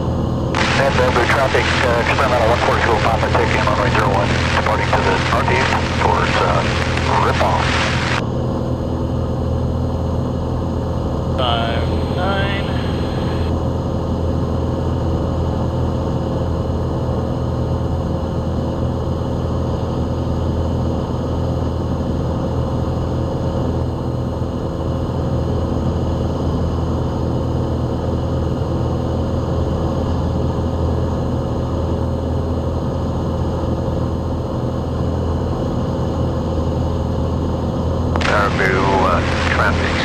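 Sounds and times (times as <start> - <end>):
airplane engine drone in cockpit: 0.0 - 40.0.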